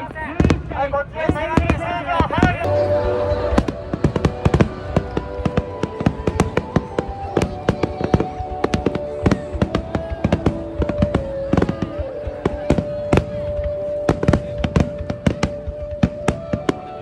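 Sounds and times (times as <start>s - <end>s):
fireworks bangs and cracks: 0.0s - 2.9s, 3.5s - 17.0s
music with long held notes: 2.6s - 17.0s.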